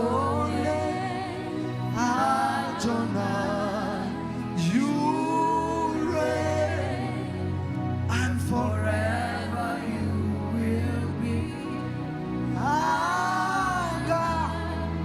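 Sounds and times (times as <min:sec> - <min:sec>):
instrumental backing with bass: 0:00.0 - 0:15.0
voices singing gospel music: 0:00.0 - 0:15.0.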